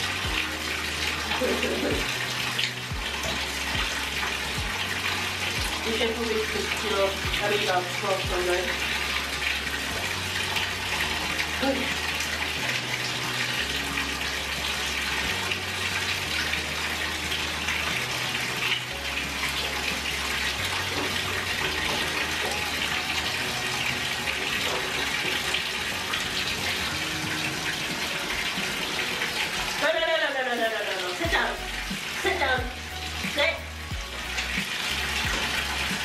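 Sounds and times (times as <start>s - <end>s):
water running into a bathtub: 0.0s - 36.0s.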